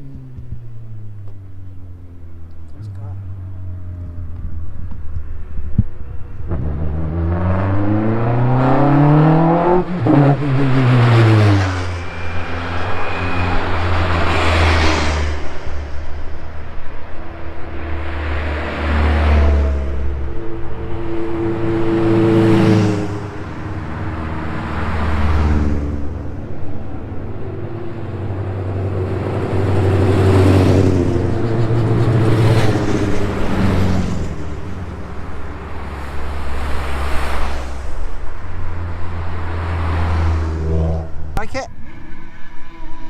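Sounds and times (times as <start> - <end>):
race cars accelerating past: 3.2 - 43.0.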